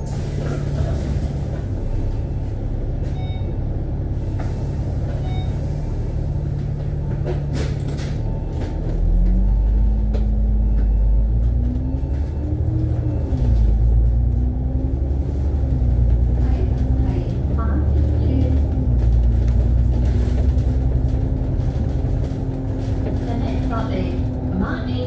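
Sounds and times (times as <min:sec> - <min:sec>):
bus diesel engine: 0:00.0 - 0:25.0
road rumble: 0:00.0 - 0:25.0.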